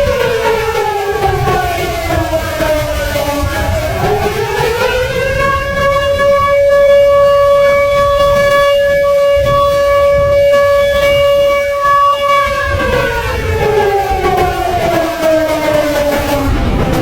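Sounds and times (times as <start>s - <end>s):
low rumbling noise: 0.0s - 17.0s
warning siren wailing: 0.0s - 17.0s.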